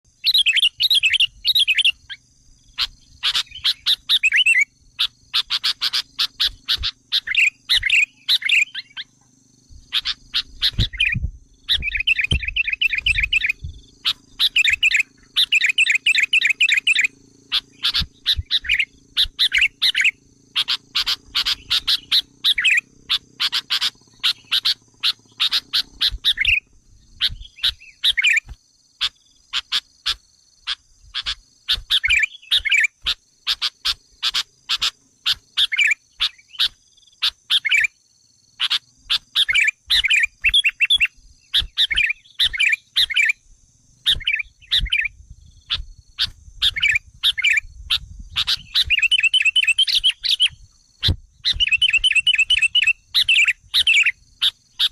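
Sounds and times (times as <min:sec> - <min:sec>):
bird chirps and chattering trills: 0:00.1 - 0:43.4, 0:44.0 - 0:54.9.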